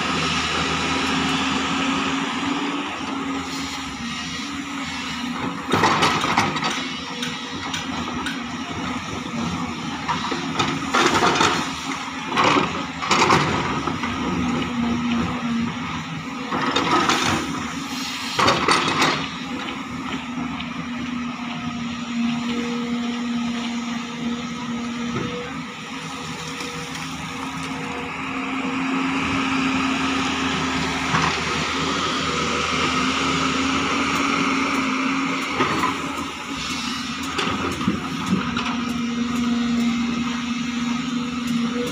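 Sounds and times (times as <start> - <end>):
excavator diesel engine under load: 0.0 - 41.9
hydraulic whine: 0.0 - 41.9.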